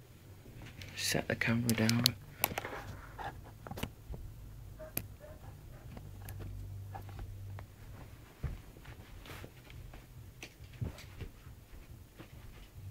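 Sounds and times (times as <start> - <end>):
faint low hum: 0.0 - 12.9.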